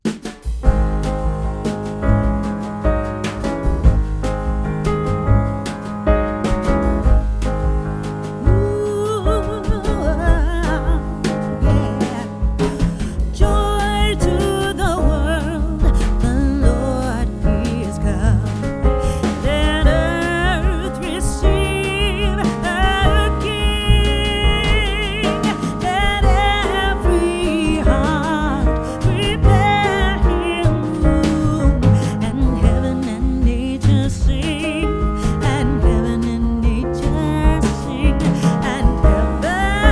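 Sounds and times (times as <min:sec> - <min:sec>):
song with vocals and bass: 0:00.7 - 0:39.9.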